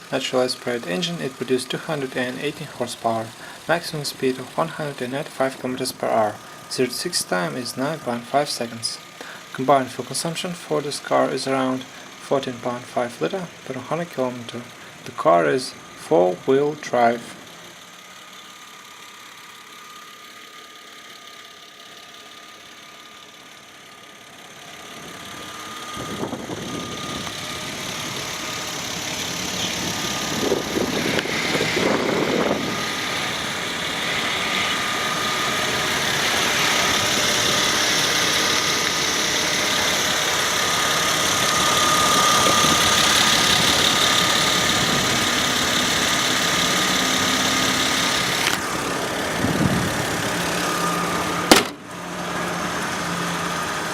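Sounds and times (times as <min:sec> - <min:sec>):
car engine idling: 0:00.0 - 0:53.9
thin steady whine: 0:00.0 - 0:53.9.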